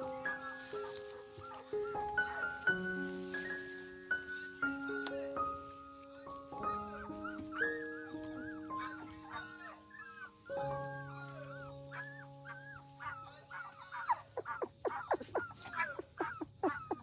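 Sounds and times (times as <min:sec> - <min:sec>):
puppies whimpering and squeaking: 0:00.0 - 0:17.0
soft background music: 0:00.0 - 0:17.0.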